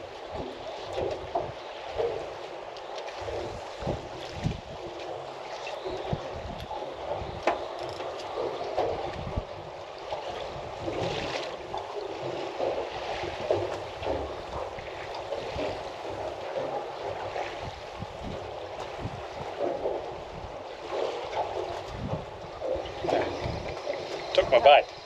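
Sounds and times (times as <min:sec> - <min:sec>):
water sloshing around boat: 0:00.0 - 0:25.0
wind buffeting microphone: 0:03.2 - 0:25.0.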